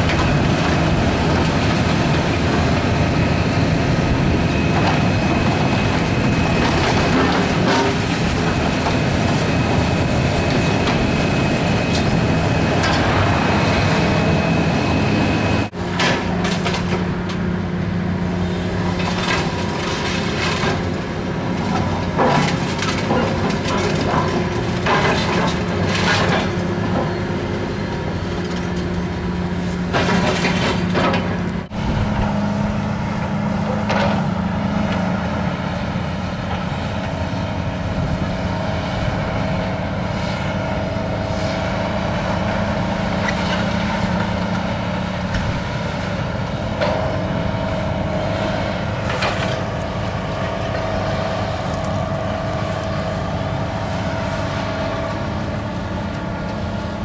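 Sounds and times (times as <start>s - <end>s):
excavator diesel engine humming: 0.0s - 57.0s.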